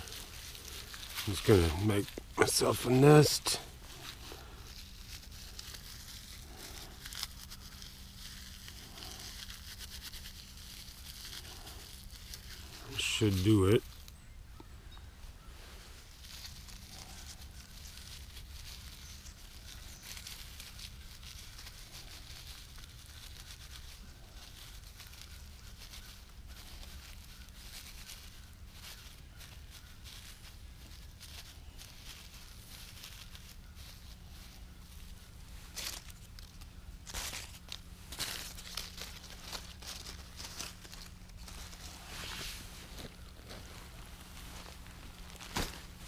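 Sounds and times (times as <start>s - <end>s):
bark crackling and rustling: 0.0s - 14.1s, 15.6s - 46.0s.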